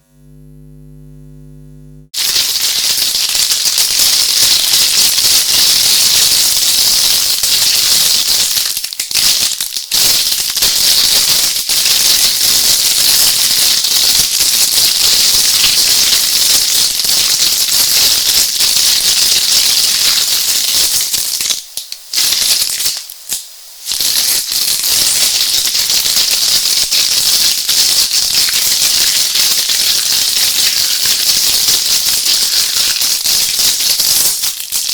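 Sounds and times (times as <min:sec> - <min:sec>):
electric sparks crackling: 0:02.2 - 0:34.9.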